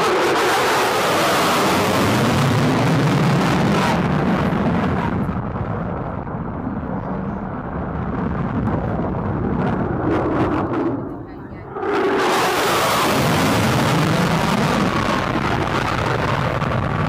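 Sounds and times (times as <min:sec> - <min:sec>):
jet engine roaring: 0:00.0 - 0:17.0.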